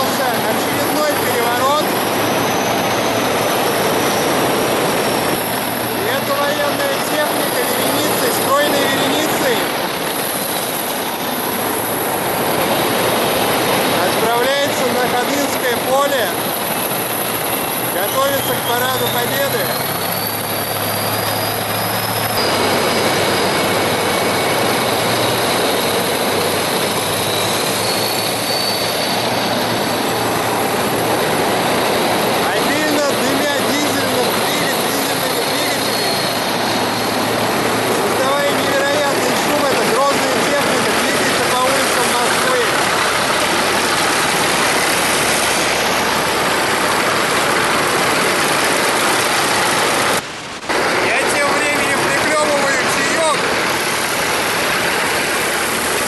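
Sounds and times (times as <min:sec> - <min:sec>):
steel tracks clattering and squealing: 0:00.0 - 0:56.0
thin high whine: 0:00.0 - 0:56.0
tracked vehicle engines: 0:00.0 - 0:56.0.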